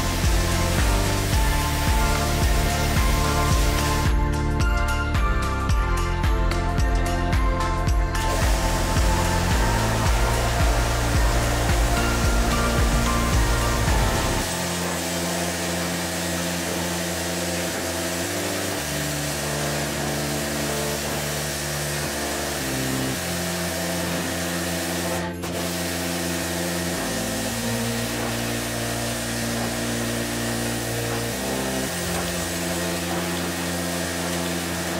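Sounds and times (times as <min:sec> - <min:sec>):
pressure washer spraying water: 0:00.0 - 0:04.5, 0:08.1 - 0:34.9
background music with slow chords: 0:00.0 - 0:34.9.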